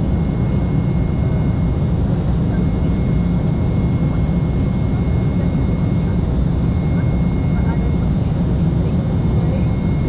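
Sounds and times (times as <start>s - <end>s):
jet cabin roar: 0.0s - 10.0s.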